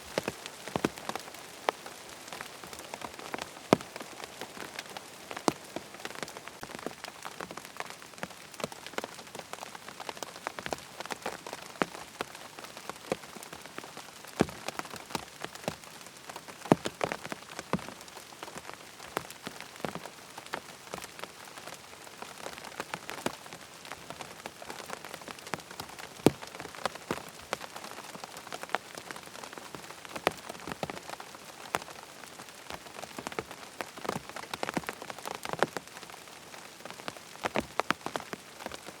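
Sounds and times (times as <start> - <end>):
rain on tent fabric: 0.0 - 39.0.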